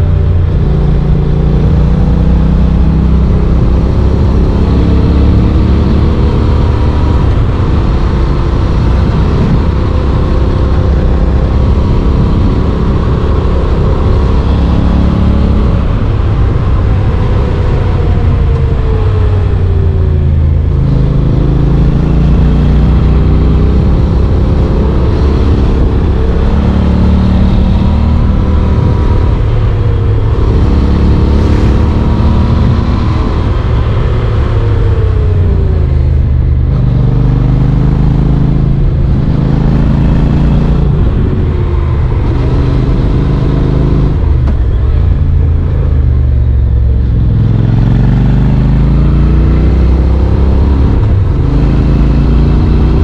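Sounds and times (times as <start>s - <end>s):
motorcycle engine running: 0.0s - 53.0s
wind noise rushing: 2.4s - 53.0s.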